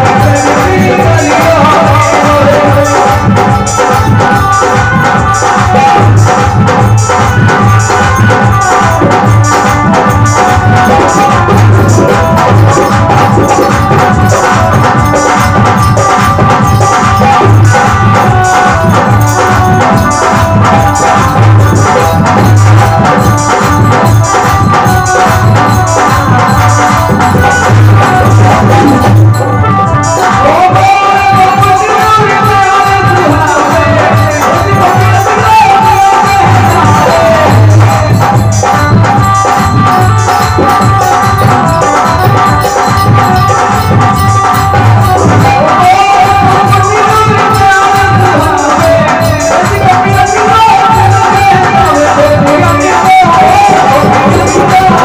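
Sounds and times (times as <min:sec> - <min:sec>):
dholak drum beating: 0:00.0 - 0:55.0
electronic keyboard: 0:00.0 - 0:55.0
harmonium: 0:00.0 - 0:55.0.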